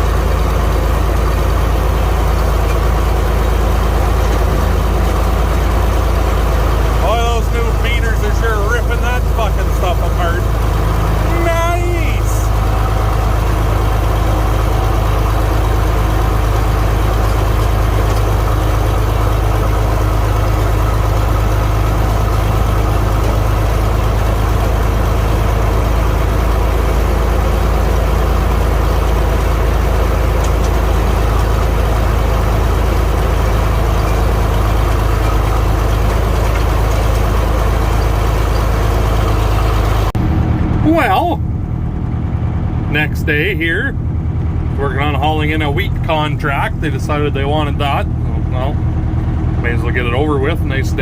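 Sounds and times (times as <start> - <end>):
tractor engine droning: 0.0 - 51.0.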